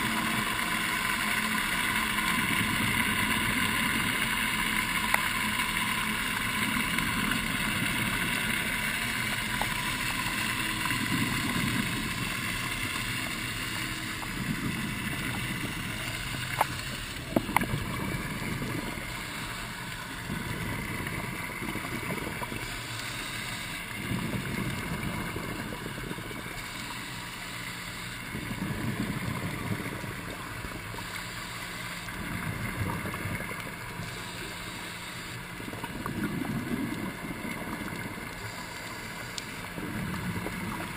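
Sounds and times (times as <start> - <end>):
diver exhaling bubbles underwater: 0.0 - 40.9
regulator hiss: 0.0 - 40.9.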